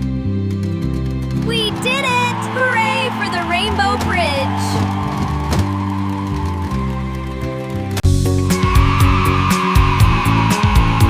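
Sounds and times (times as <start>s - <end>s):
background music with sustained notes: 0.0s - 11.0s.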